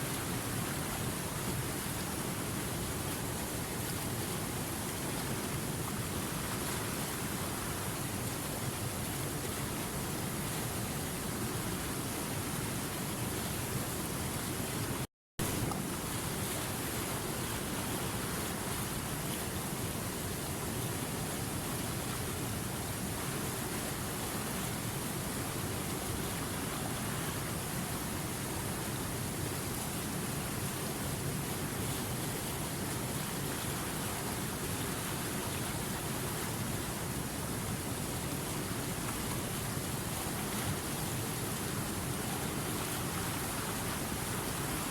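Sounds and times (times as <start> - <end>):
river water flowing: 0.0 - 44.9.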